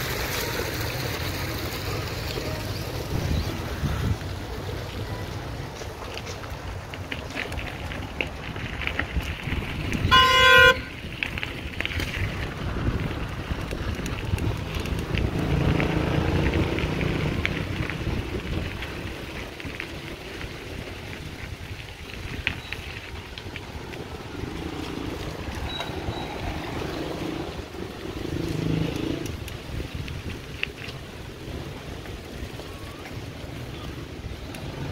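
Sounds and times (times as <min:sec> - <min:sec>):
bicycle tyres rolling: 0:00.0 - 0:34.9
wind buffeting microphone: 0:02.1 - 0:34.9.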